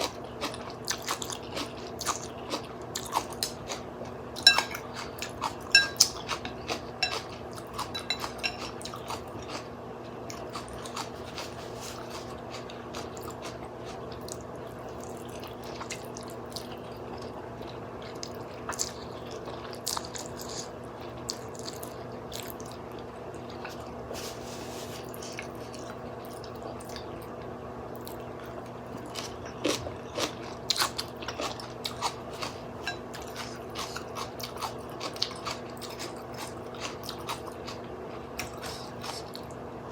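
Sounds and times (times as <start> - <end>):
person chewing food: 0.0 - 39.6
steady low hum: 0.0 - 39.9.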